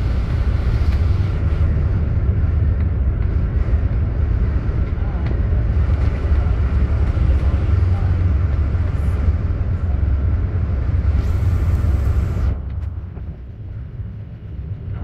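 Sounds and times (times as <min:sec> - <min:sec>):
engine and road noise drone: 0:00.0 - 0:15.0.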